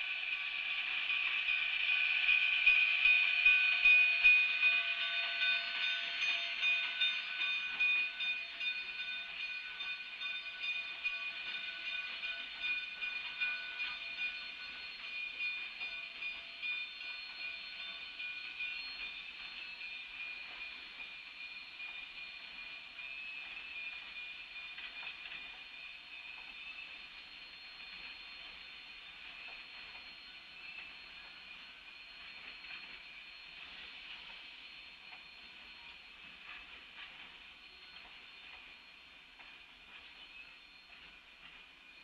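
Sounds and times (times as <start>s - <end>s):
steam hiss: 0.0s - 42.0s
train wheels squealing on rails: 0.0s - 42.0s.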